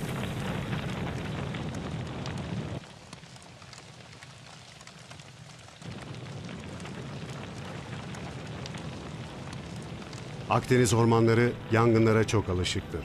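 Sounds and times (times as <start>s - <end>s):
fire rushing and rumbling: 0.0s - 12.0s
fire crackling: 0.0s - 13.0s.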